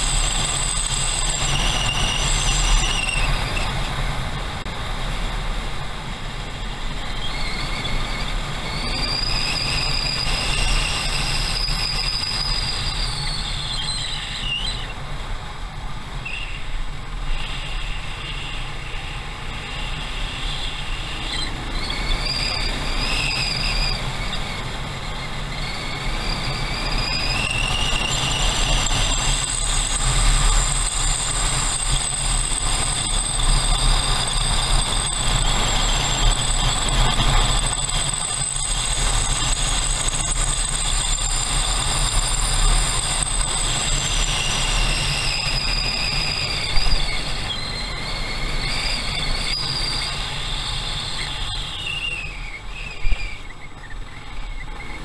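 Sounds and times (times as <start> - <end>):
motorcycle whine: 0.0 - 55.0.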